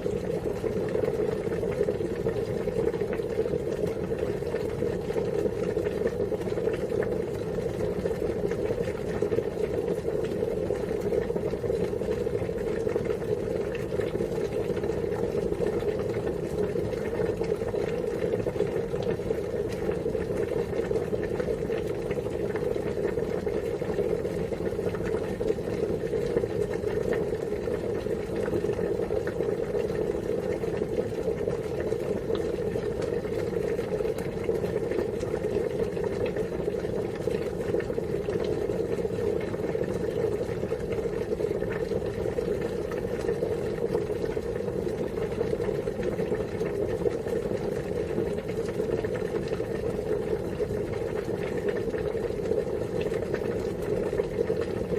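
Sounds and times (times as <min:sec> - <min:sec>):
water boiling: 0:00.0 - 0:54.9.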